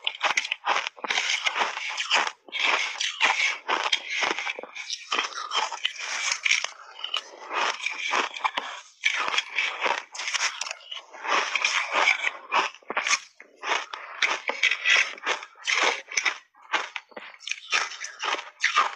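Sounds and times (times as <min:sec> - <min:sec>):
crunching and chewing ice: 0:00.0 - 0:18.9.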